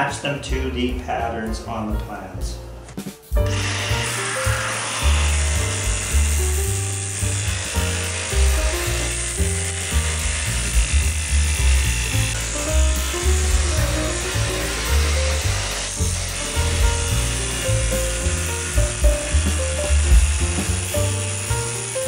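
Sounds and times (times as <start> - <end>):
background music with bassline: 0.0 - 22.0
jigsaw cutting plywood: 3.4 - 22.0.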